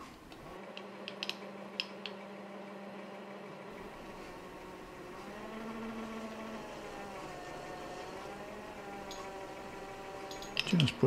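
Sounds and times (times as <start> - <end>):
lathe humming: 0.2 - 11.0.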